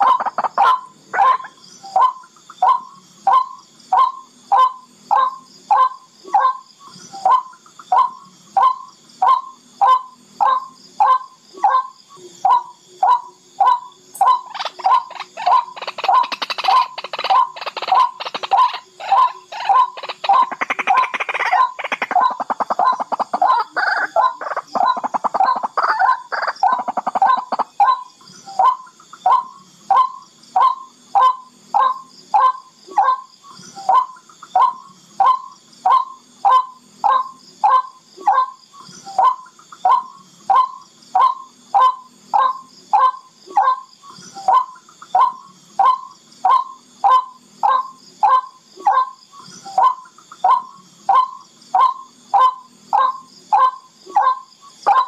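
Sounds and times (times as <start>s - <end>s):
rail bird calling: 7.2s - 55.0s.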